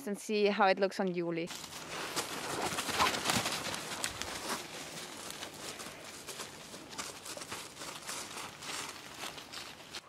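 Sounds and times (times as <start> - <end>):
footsteps through dry leaves: 1.5 - 10.0.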